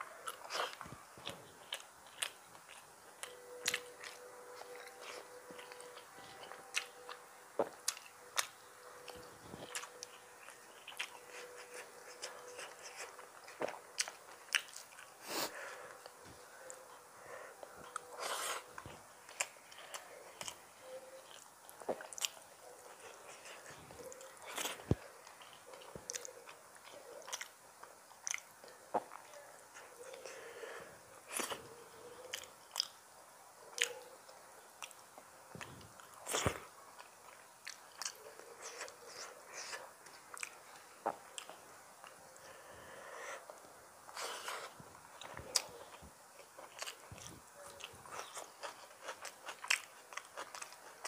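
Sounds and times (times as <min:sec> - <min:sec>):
close-miked chewing: 0:00.0 - 0:51.0.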